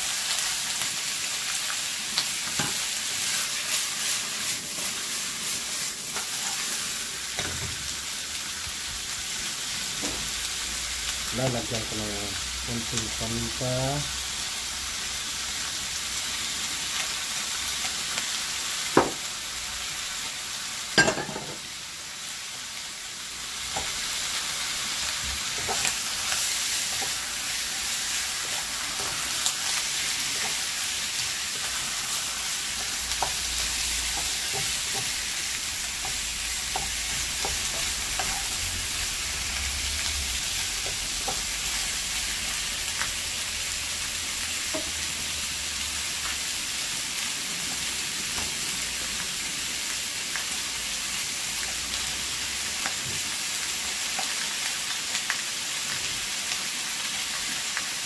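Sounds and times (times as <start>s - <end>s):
chicken sizzling in a pot: 0.0s - 58.0s.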